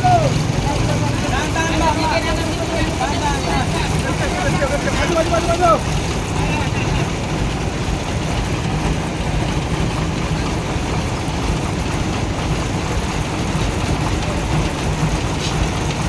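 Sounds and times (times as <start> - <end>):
heavy vehicle engine idling: 0.0 - 16.0.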